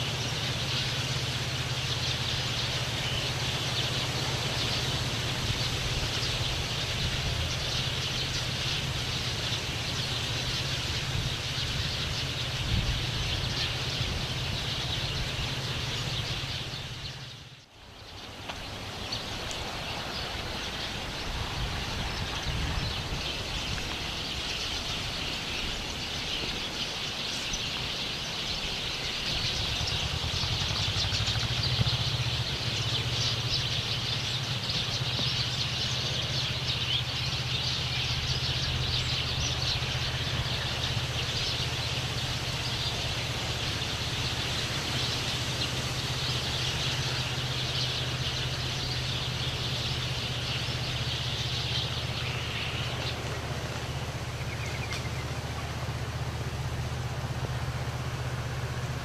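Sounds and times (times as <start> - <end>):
small birds chirping: 0.0 - 59.0
traffic rumble: 0.0 - 59.0.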